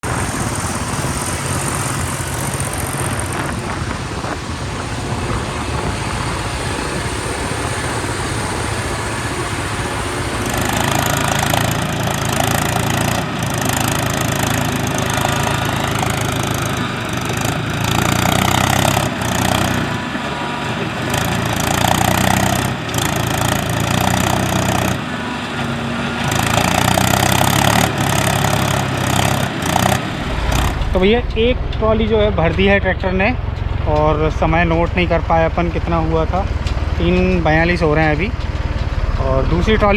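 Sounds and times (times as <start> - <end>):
backhoe digging mud: 0.0 - 39.9
tractor diesel engine running: 0.0 - 39.9.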